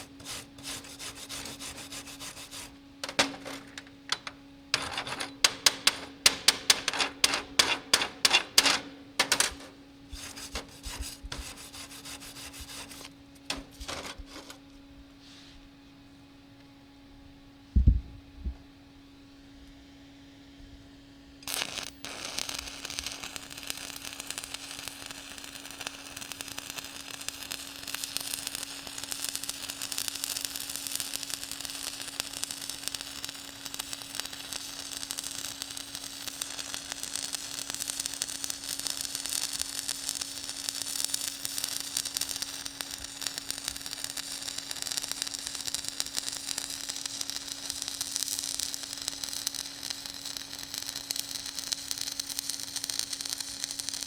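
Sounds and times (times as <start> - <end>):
welding arc crackling and hissing: 0.0 - 14.6, 21.4 - 54.0.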